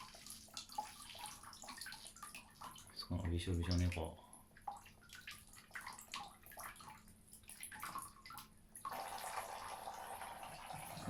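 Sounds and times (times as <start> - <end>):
water dripping in a washbasin: 0.0 - 11.0
water running: 0.0 - 11.0.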